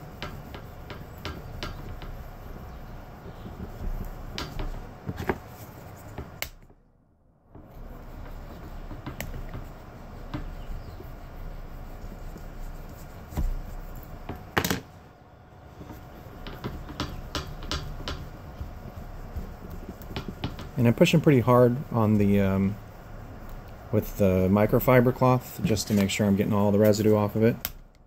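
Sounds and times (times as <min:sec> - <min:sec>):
cloth rubbing: 0:00.0 - 0:06.4, 0:07.6 - 0:14.6, 0:15.7 - 0:27.6.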